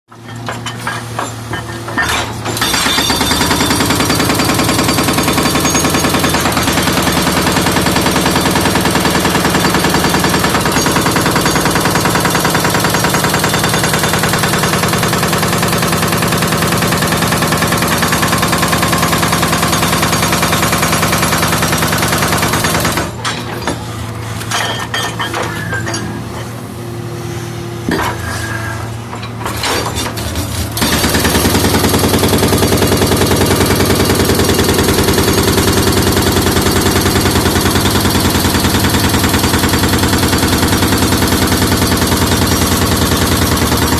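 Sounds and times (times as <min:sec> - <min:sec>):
hydraulic breaker hammering: 0:00.1 - 0:26.6, 0:29.2 - 0:43.9
backhoe engine running: 0:00.1 - 0:43.9.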